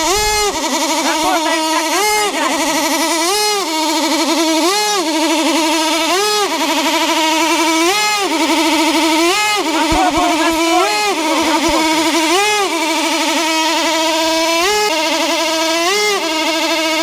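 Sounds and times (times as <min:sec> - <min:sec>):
model aircraft engine screaming: 0:00.0 - 0:17.0.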